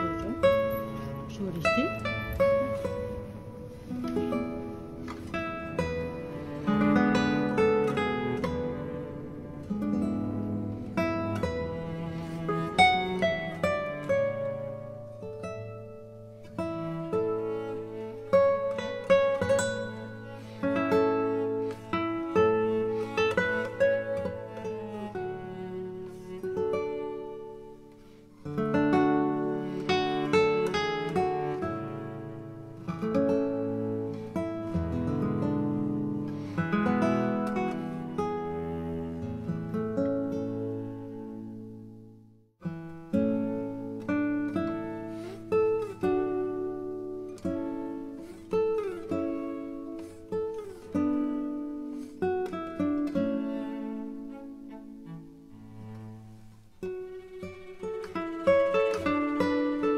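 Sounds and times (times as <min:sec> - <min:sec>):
acoustic guitar music: 0:00.0 - 0:59.9.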